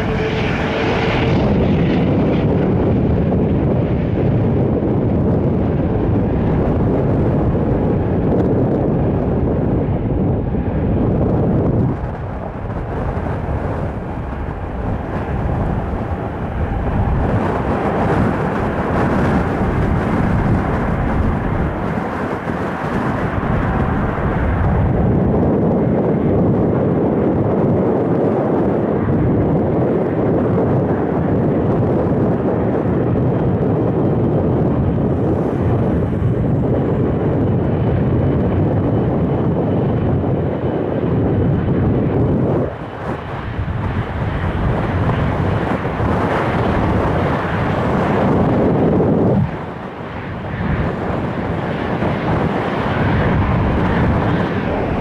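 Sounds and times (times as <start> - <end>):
jet airliner passing: 0.0 - 55.0.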